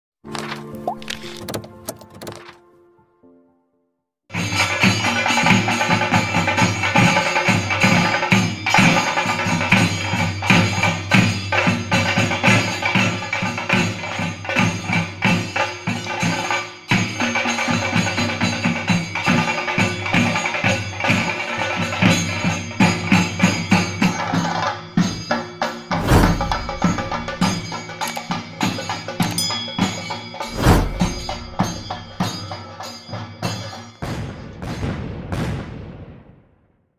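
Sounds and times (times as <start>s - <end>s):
drums and cymbals playing: 4.4s - 34.3s.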